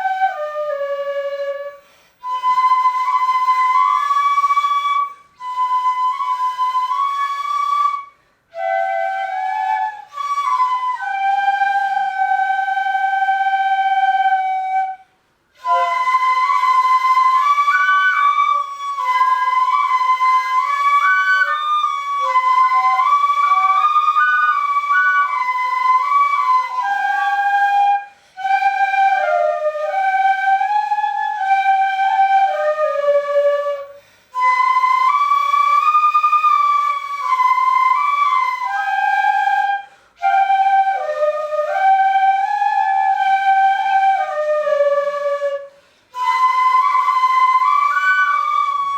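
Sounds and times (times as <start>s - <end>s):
bamboo flute melody: 0.0s - 48.9s.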